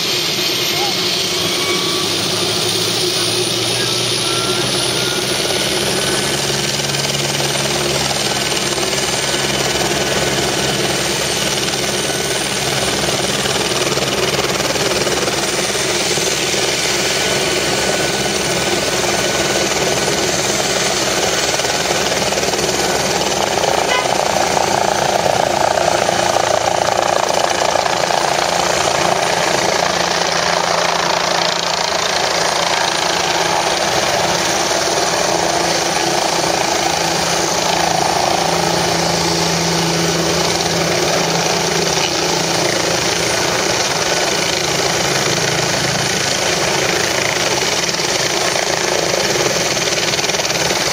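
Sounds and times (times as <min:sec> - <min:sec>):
helicopter engine and rotor: 0:00.0 - 0:50.9.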